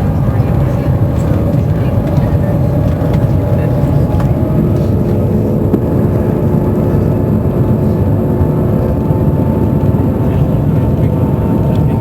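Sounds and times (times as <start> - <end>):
low train cabin rumble: 0.0 - 12.0.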